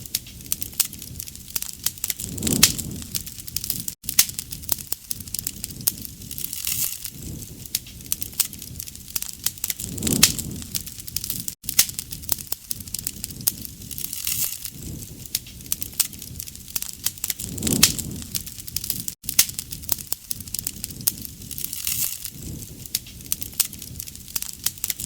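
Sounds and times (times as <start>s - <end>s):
bonfire crackling and popping: 0.0s - 25.0s
low rush of flame: 0.0s - 25.0s.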